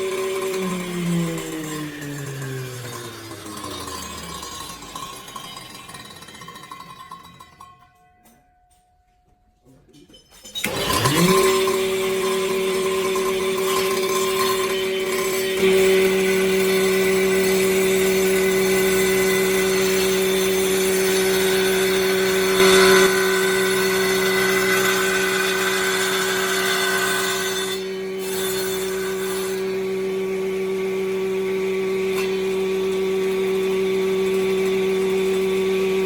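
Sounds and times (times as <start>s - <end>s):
circular saw cutting wood: 0.0s - 8.4s, 10.6s - 36.0s.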